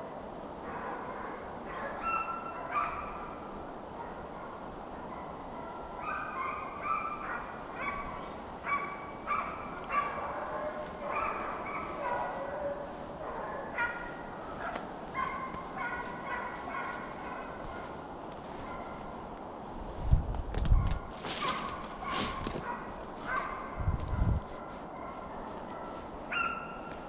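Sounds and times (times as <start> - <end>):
wind and rain hiss: 0.0 - 27.0
distant dogs baying: 0.6 - 19.3, 20.8 - 27.0.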